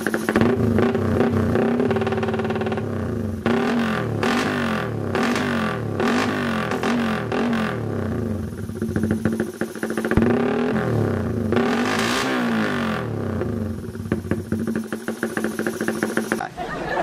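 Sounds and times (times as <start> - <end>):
motorcycle engine revving: 0.0 - 16.5.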